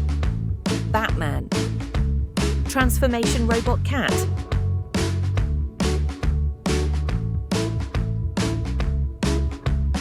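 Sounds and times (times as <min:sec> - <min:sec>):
upbeat electronic music with heavy bass: 0:00.0 - 0:10.0.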